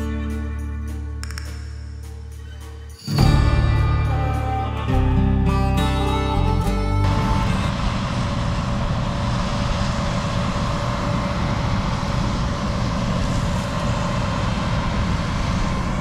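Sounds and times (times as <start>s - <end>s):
combine harvester rumbling: 2.6s - 16.0s.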